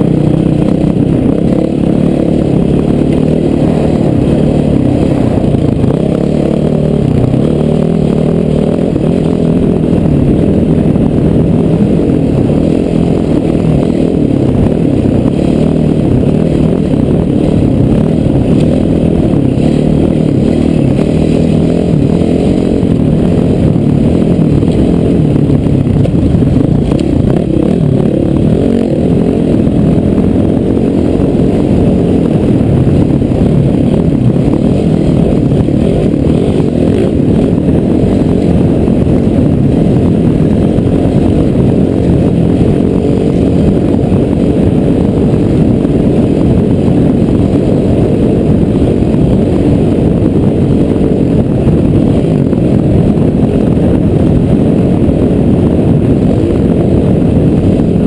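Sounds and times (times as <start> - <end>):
dirt bike engine running hard: 0.0 - 58.0.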